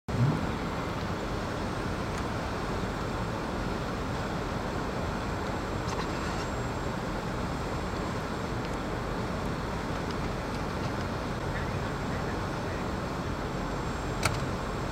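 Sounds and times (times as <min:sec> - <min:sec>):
tyres hissing on snowy road: 0:00.1 - 0:14.9.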